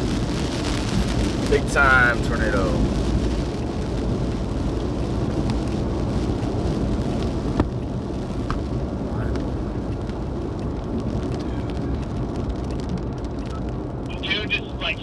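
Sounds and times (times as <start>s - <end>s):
road and wind noise: 0.0s - 15.0s
vehicle driving rumble: 0.0s - 15.0s.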